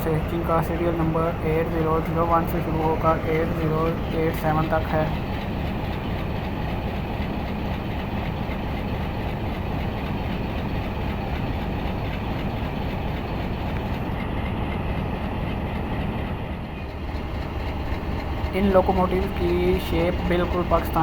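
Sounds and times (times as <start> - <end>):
locomotive engine idling: 0.0 - 21.0.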